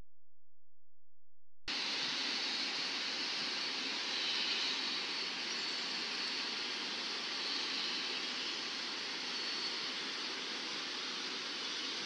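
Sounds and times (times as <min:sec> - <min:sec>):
outdoor background hiss: 0:01.7 - 0:12.0.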